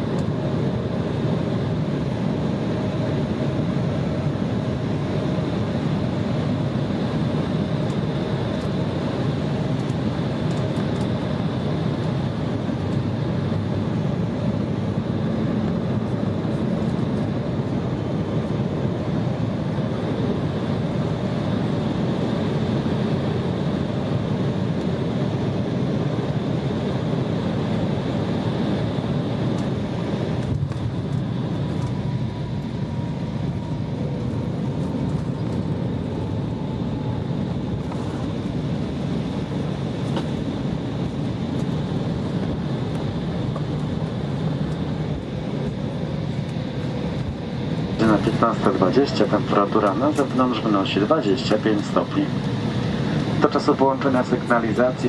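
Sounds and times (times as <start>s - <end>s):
jet engine and airflow rush: 0.0s - 55.0s.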